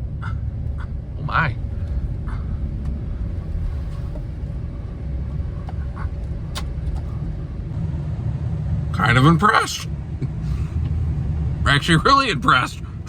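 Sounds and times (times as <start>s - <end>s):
vehicle engine running under load: 0.0s - 13.0s.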